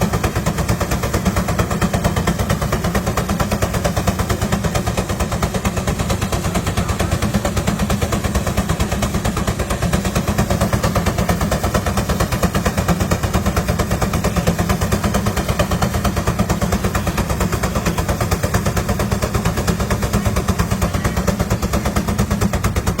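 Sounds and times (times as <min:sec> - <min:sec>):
unmuffled engine running: 0:00.0 - 0:23.0.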